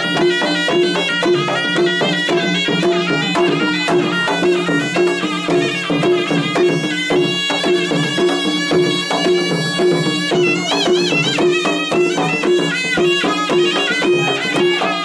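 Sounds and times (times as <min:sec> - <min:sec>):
drums beating repeating pattern: 0:00.0 - 0:15.0
oboe wavering melody: 0:00.0 - 0:15.0.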